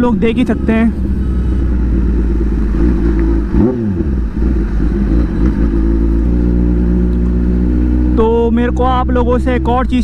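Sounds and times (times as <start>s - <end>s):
engine rev: 0.0s - 10.0s
motorcycle engine at low speed: 0.0s - 10.0s.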